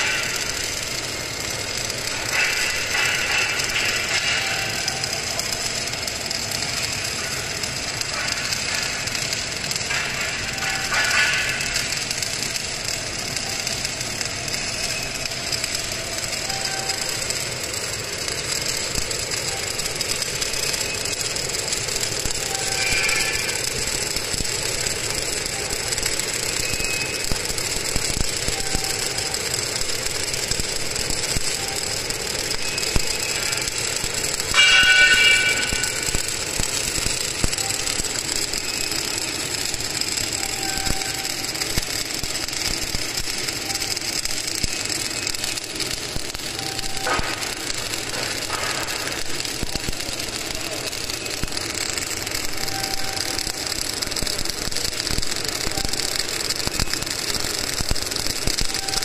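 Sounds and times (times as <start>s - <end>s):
mechanical running noise: 0.0s - 59.0s.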